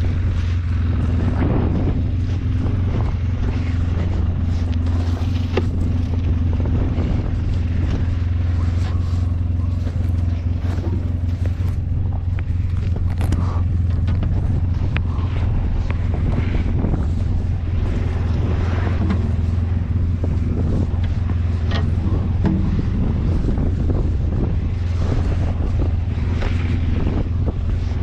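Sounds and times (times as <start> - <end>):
snow plow engine running: 0.0 - 28.0.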